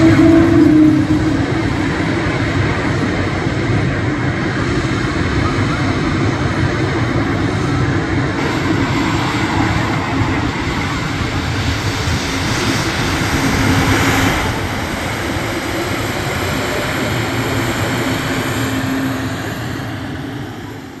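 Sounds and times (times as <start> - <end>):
jet engines droning: 0.0 - 21.0.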